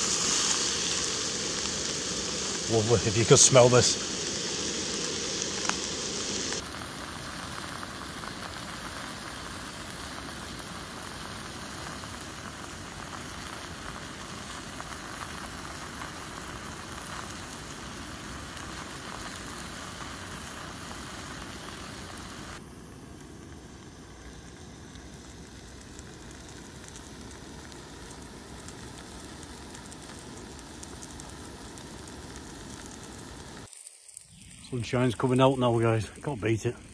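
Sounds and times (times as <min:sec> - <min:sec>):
steak sizzling in a frying pan: 0:00.0 - 0:35.3.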